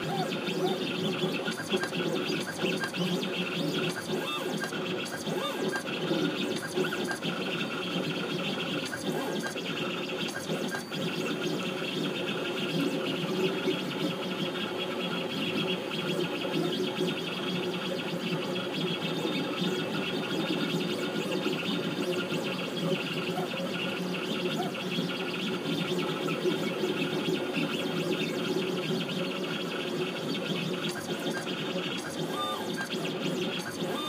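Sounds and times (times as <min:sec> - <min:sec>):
engraving machine motor whine: 0:00.0 - 0:34.0.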